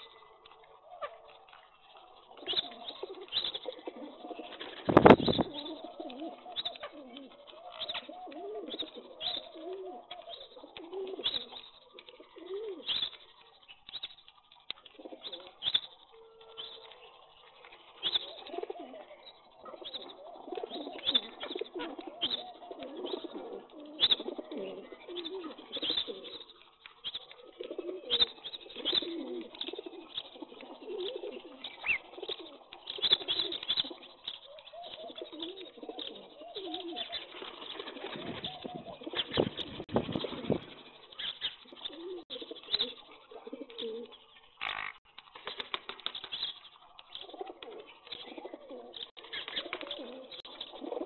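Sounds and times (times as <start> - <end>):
beaks pecking on concrete: 0.0 - 51.0
pigeons cooing: 0.0 - 51.0.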